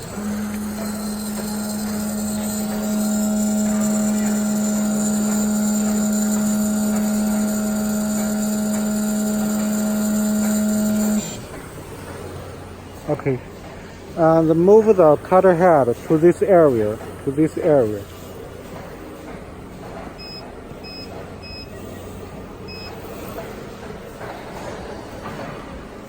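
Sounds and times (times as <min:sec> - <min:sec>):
cutting machine motor hum and whine: 0:00.0 - 0:24.6.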